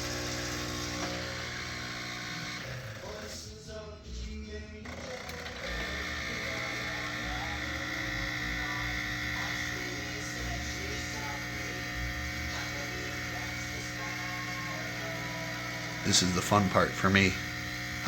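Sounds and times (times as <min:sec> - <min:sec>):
espresso machine running: 0:00.0 - 0:03.6, 0:04.8 - 0:18.0.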